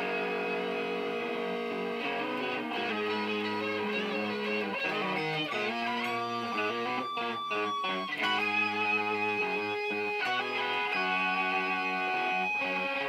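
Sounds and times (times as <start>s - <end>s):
electric guitar picked notes: 0.0s - 13.0s.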